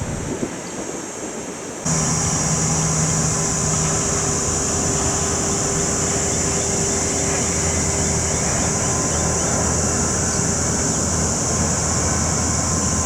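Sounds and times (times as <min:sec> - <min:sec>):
jet engines running: 0:01.9 - 0:13.0.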